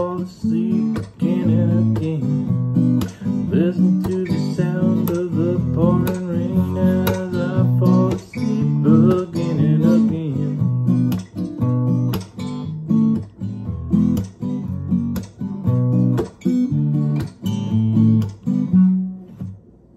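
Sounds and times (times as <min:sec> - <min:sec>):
acoustic guitar strumming: 0:00.0 - 0:19.8.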